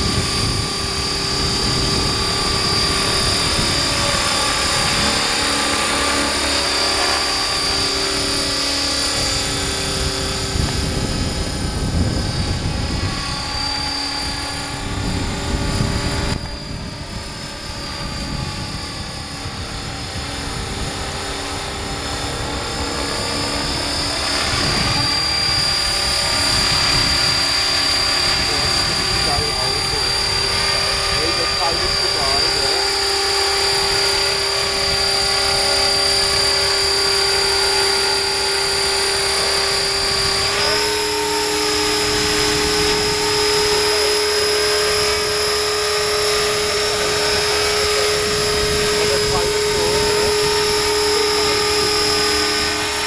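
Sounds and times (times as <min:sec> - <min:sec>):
rc helicopter high whine: 0:00.0 - 0:53.0
rotor blades whirring: 0:00.0 - 0:53.0.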